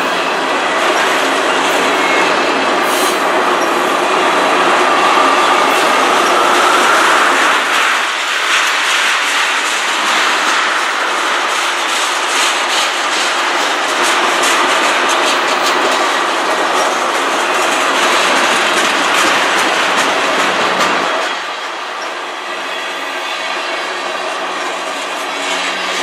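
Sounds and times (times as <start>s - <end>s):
wheels clicking over rail joints: 0.0s - 22.4s
freight train wheels rumbling on rails: 0.0s - 26.0s.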